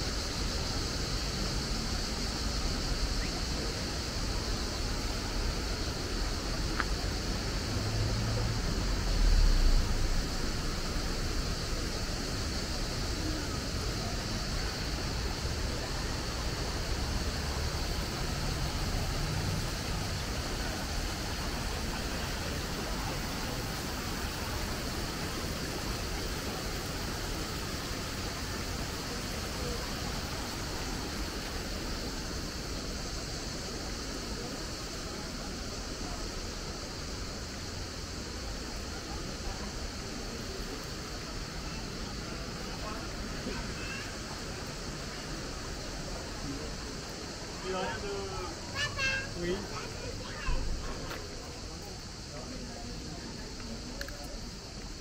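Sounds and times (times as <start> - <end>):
river water rushing over weir: 0.0 - 55.0
water spilling from water wheel: 0.0 - 55.0.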